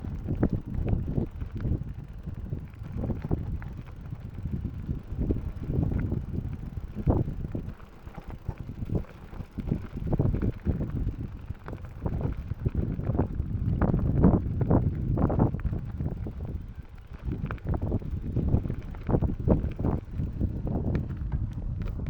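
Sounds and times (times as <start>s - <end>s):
bike knocking and rattling: 0.0s - 22.0s
wind rumbling on microphone: 0.0s - 22.0s.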